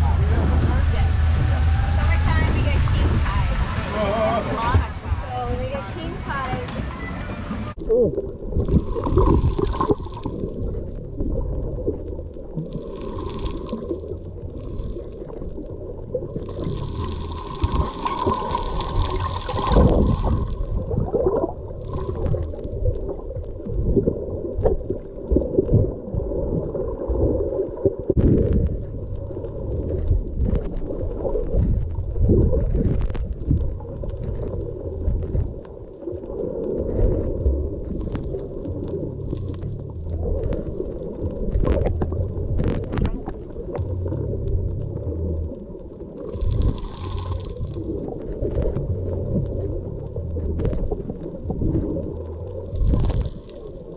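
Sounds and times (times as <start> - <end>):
underwater rumble and gurgle: 0.0 - 53.9.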